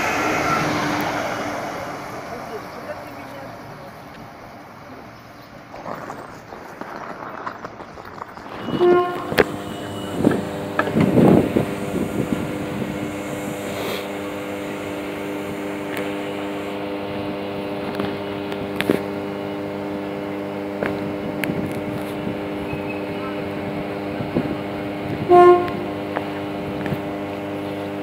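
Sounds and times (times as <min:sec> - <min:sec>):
electric train humming: 0:00.0 - 0:28.0.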